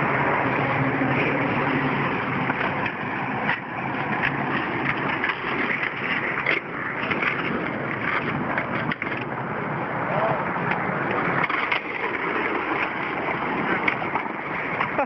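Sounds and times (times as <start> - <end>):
vehicle noise with low hum: 0.0 - 15.0.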